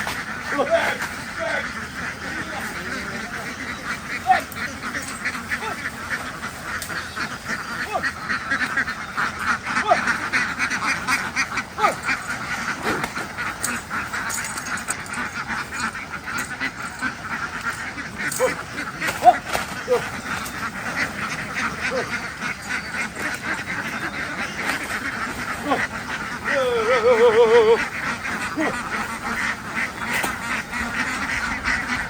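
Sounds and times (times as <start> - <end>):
flock of ducks quacking: 0.0 - 32.0.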